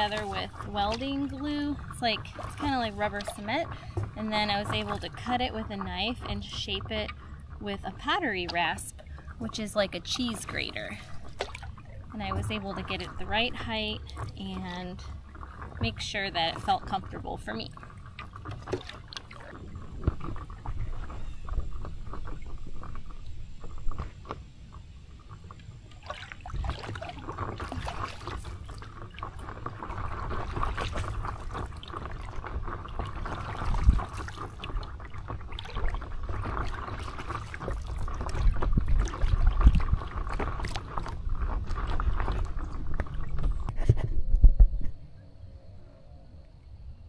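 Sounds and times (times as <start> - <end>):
paddle splashing through water: 0.0 - 44.1
low rumble of water: 0.0 - 47.0.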